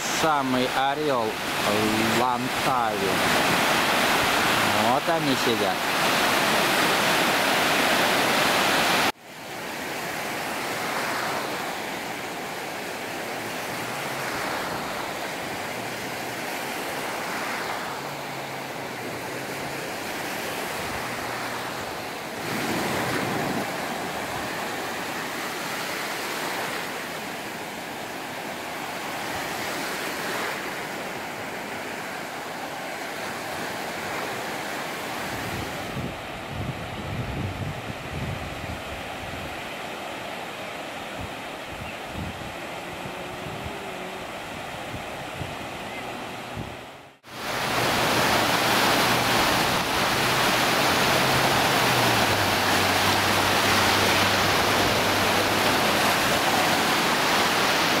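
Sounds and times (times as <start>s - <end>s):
sea waves breaking on beach: 0.0s - 58.0s
wind and water rushing: 0.0s - 58.0s.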